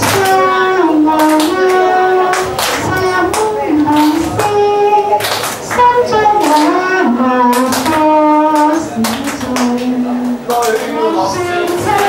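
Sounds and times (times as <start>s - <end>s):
people clapping along: 0.0s - 12.0s
person singing into microphone: 0.0s - 12.0s.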